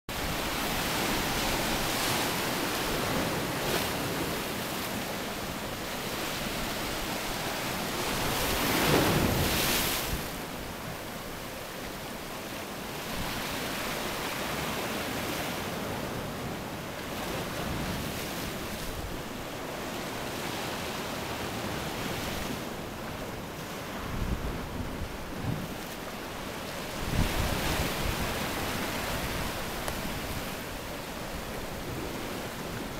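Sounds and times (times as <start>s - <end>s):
sea waves breaking on rocks: 0.2s - 32.9s.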